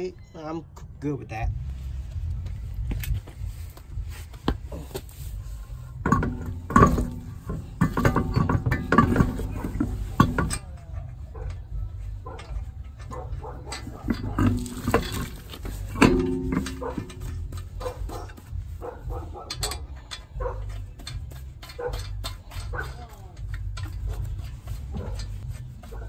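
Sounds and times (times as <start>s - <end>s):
metallic clanks of wheel nuts: 4.4s - 26.0s.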